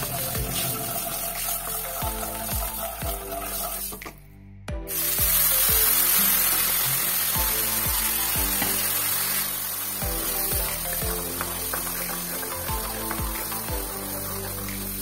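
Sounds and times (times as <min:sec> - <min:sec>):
food sizzling in oil: 0:00.0 - 0:04.1, 0:04.9 - 0:15.0
background music with drum beat: 0:00.0 - 0:15.0.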